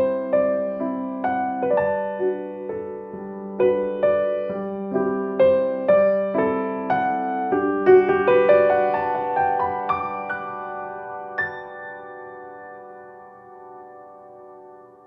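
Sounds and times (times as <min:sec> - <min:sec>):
slow solo piano melody: 0:00.0 - 0:15.0.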